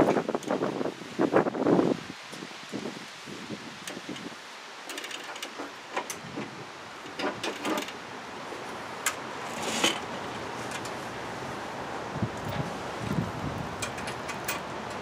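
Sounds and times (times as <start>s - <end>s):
wind hiss: 0.0s - 15.0s.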